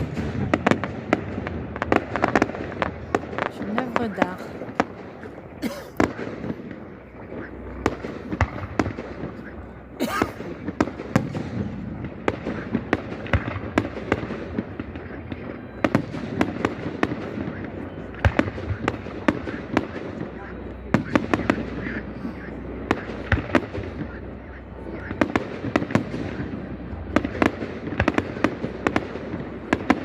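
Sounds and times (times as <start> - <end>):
continuous rumble: 0.0 - 30.0
fireworks bangs and crackles: 0.0 - 30.0.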